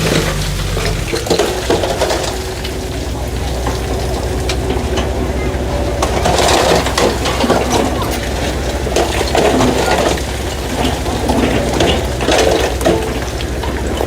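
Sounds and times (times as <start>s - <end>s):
construction machinery engine drone: 0.0s - 14.0s
crunching and clanking: 0.0s - 14.0s.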